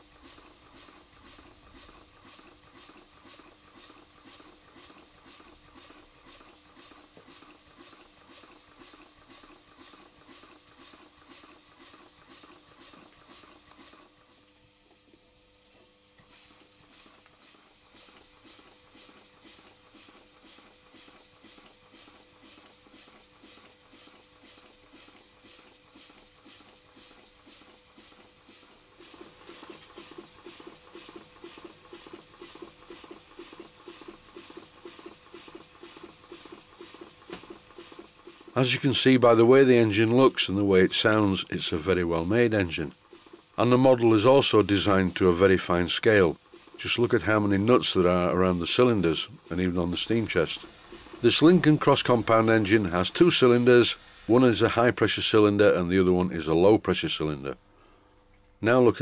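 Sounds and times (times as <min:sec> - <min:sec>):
steam engine hissing exhaust beats: 0:00.0 - 0:15.1, 0:15.7 - 0:55.4.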